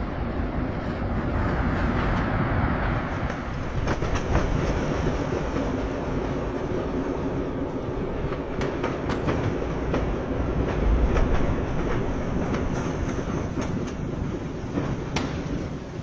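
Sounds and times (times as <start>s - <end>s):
wheels clicking on track: 3.1s - 16.0s.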